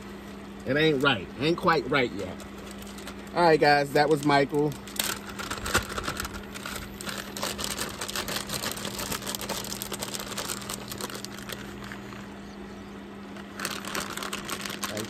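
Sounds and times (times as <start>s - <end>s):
steady low hum: 0.0s - 15.0s
plastic bag crinkling: 1.6s - 12.2s, 13.4s - 15.0s.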